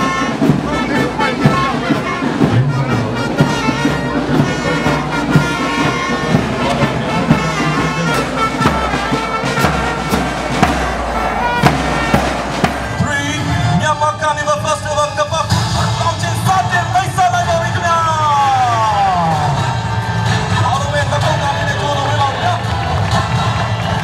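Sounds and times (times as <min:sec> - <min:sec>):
steady drum beat: 0:00.0 - 0:24.0
upbeat brass music: 0:00.0 - 0:24.0.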